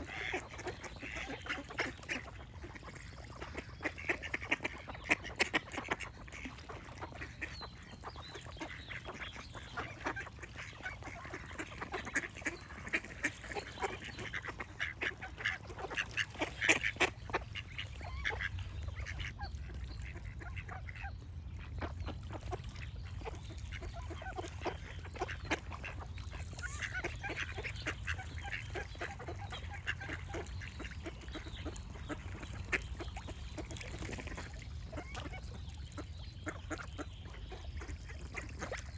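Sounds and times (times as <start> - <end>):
birdsong: 0.0 - 38.9
ducks quacking: 0.0 - 38.9.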